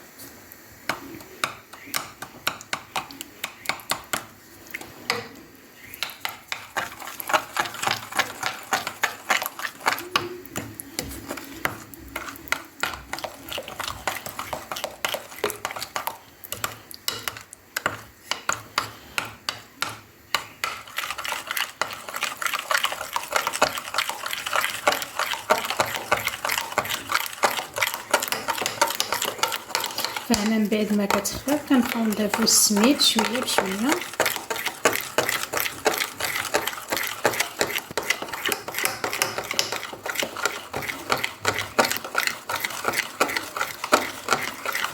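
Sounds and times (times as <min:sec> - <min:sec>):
whisk clicking against bowl: 0:00.9 - 0:05.3, 0:05.9 - 0:44.9.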